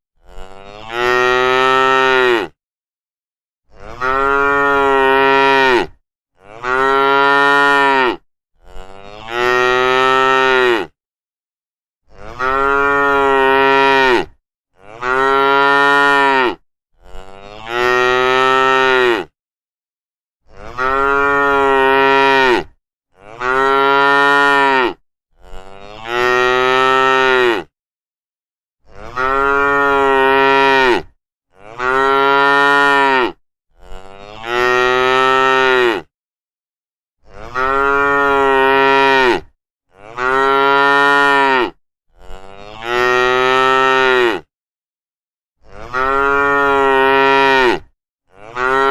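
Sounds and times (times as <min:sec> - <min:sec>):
cattle mooing: 0:00.2 - 0:02.6, 0:03.8 - 0:10.9, 0:12.1 - 0:19.3, 0:20.6 - 0:27.7, 0:29.0 - 0:36.1, 0:37.4 - 0:44.5, 0:45.6 - 0:48.9.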